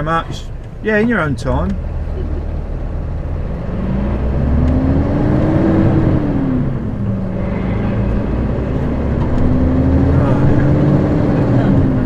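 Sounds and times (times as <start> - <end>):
lorry diesel engine pulling away: 1.7 - 12.0.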